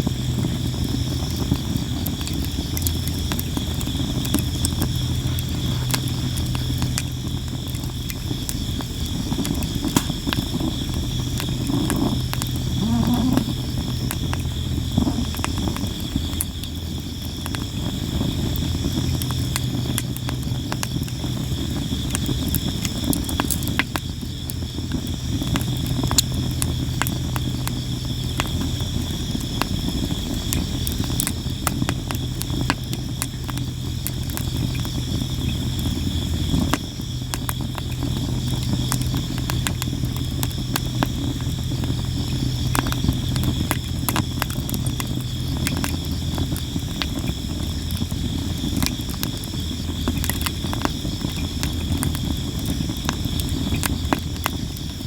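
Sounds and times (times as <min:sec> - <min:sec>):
firewood crackling and popping: 0:00.0 - 0:55.0
insects chirping: 0:00.0 - 0:55.0.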